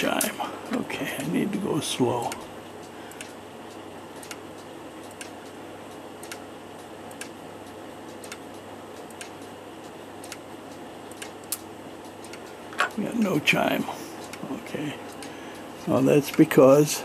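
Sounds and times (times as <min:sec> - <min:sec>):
clock ticking: 0:00.1 - 0:17.0.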